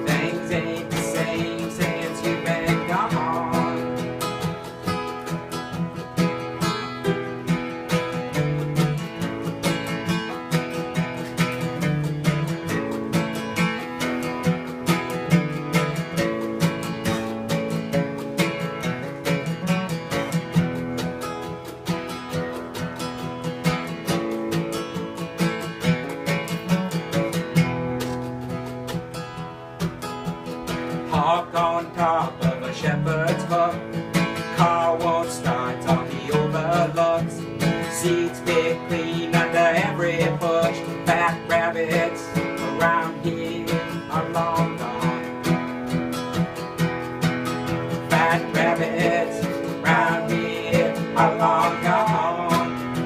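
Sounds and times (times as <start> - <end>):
acoustic guitar picking and strumming: 0.0 - 53.0.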